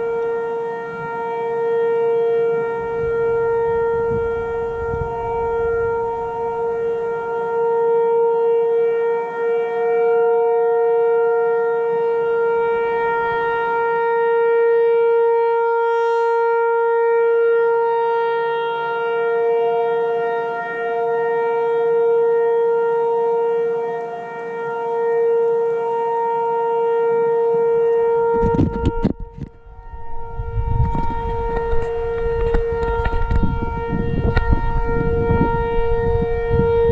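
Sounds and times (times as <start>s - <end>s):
warning siren steady tone: 0.0s - 36.9s.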